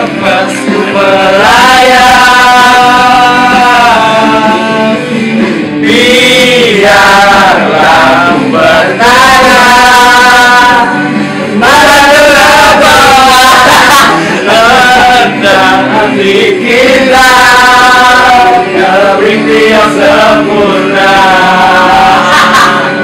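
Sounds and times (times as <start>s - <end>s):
strummed acoustic guitar: 0.0s - 23.0s.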